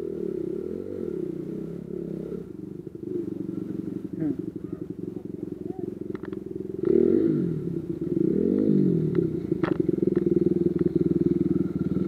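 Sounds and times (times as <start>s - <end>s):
dirt bike engine idling and revving: 0.0s - 12.0s.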